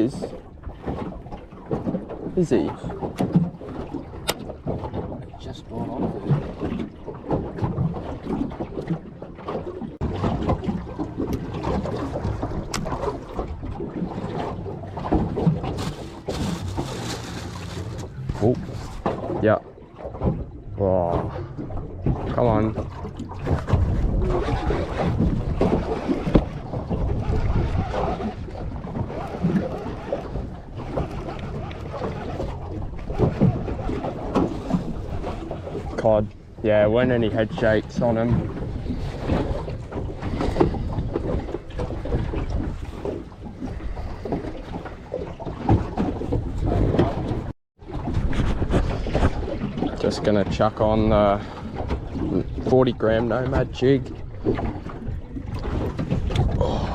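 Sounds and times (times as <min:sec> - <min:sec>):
water slapping boat hull: 0:00.0 - 0:56.9
wind buffeting microphone: 0:00.0 - 0:56.9.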